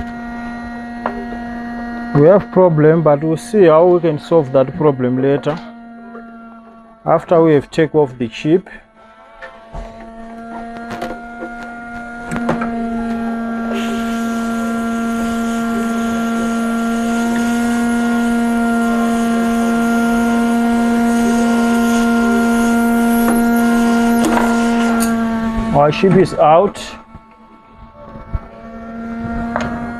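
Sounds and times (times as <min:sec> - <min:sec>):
hot air blower humming: 0:00.0 - 0:29.9.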